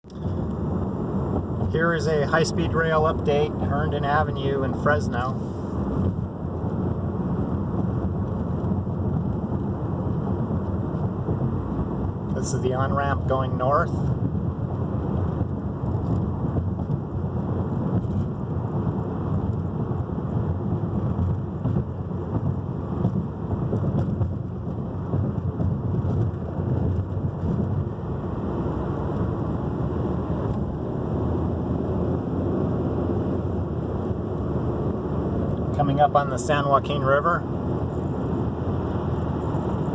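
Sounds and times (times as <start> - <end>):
car road and wind rumble: 0.0 - 39.9.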